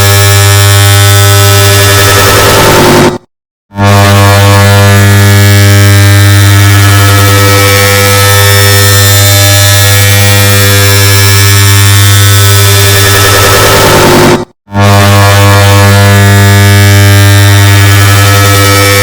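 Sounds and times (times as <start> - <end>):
loud electric hum with low drone: 0.0 - 3.2, 3.8 - 19.0.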